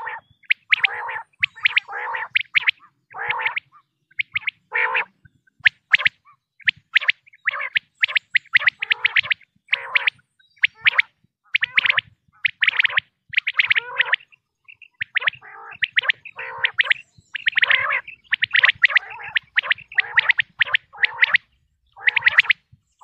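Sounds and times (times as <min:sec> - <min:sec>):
quail calling in rapid bursts: 0:00.0 - 0:22.8.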